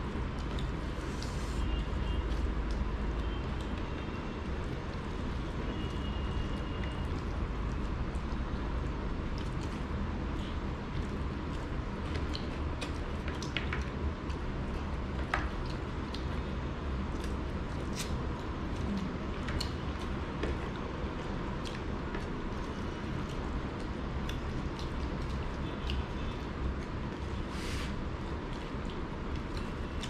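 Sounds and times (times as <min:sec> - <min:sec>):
fingers squishing rice and curry: 0:00.0 - 0:30.0
low background hum: 0:00.0 - 0:30.0.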